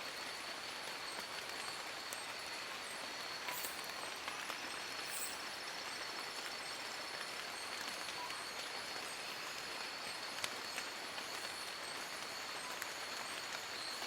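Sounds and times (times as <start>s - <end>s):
rain on leaves: 0.0s - 14.0s.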